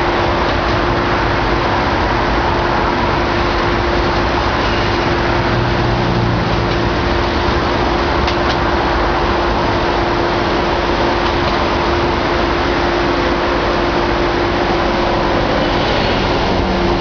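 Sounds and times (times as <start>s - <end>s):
excavator running: 0.0s - 17.0s
steady hum: 0.0s - 17.0s.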